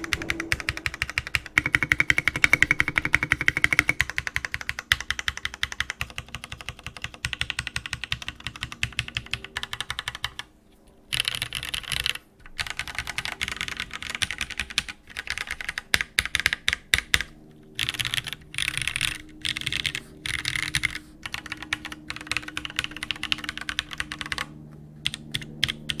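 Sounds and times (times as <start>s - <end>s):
mechanical keyboard typing: 0.0s - 10.5s, 11.1s - 26.0s.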